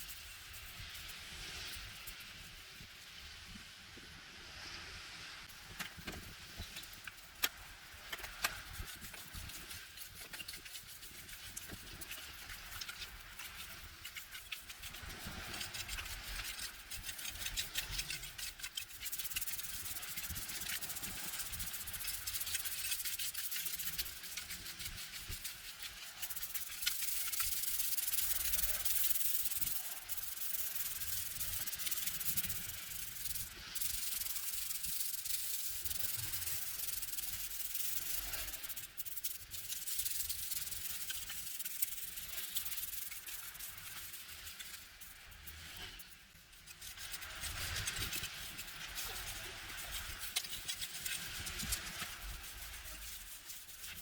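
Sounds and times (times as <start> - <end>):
rasping scrubbing of a surface: 8.6 - 54.0.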